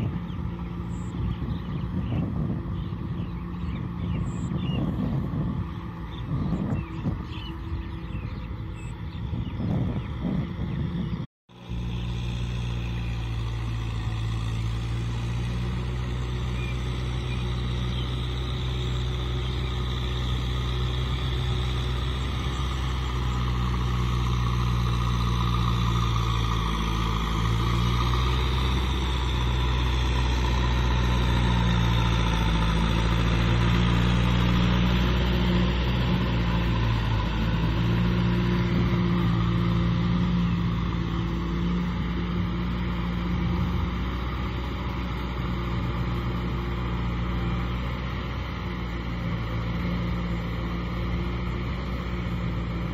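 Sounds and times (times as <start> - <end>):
tractor engine running under load: 0.0 - 52.9.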